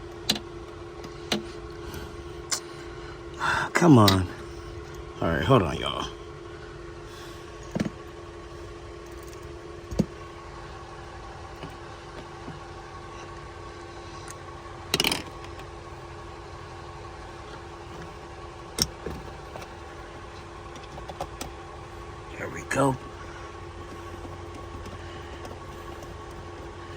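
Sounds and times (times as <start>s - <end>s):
steady mechanical hum: 0.0s - 26.9s.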